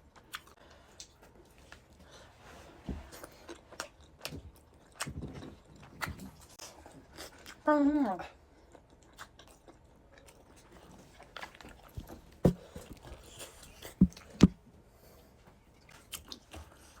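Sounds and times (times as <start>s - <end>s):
person chewing dumplings: 0.0s - 2.3s, 3.0s - 7.6s, 8.3s - 14.6s, 15.7s - 17.0s.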